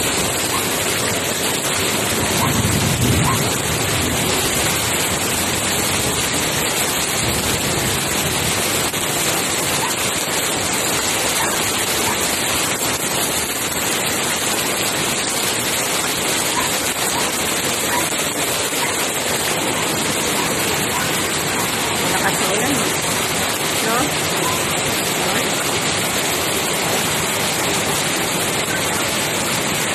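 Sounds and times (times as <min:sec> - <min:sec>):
heavy rain on pavement: 0:00.0 - 0:29.9.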